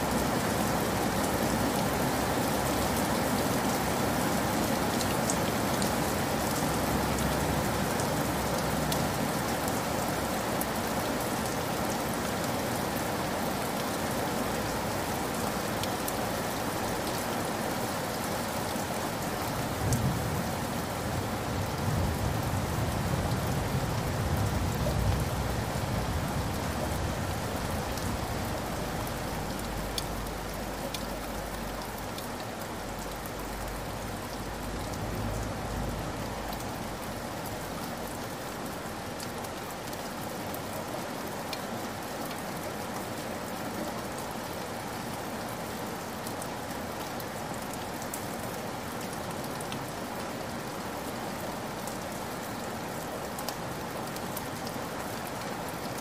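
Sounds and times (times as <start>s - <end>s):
heavy rain on wet ground: 0.0s - 56.0s.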